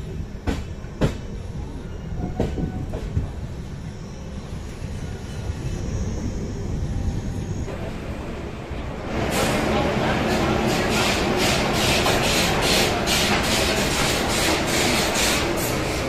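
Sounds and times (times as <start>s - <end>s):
train coach rumbling on track: 0.0s - 16.0s.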